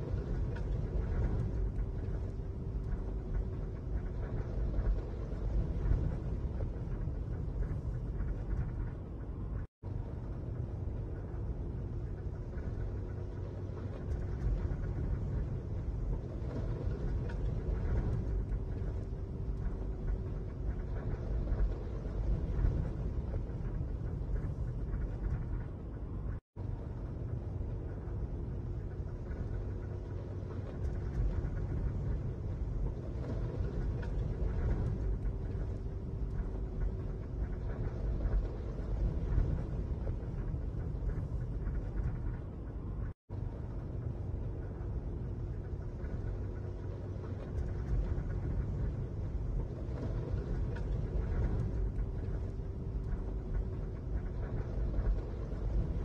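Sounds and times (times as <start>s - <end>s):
faint steady hum: 0.0s - 56.0s
strong wind gusting: 0.0s - 56.0s.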